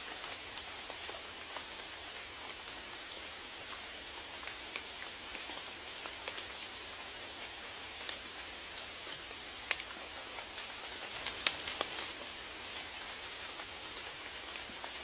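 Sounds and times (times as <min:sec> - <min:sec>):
raindrops ticking: 0:00.1 - 0:15.0.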